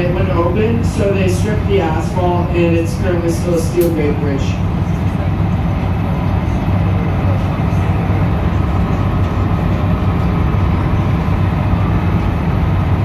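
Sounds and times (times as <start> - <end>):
boat engine low hum: 0.0 - 13.0.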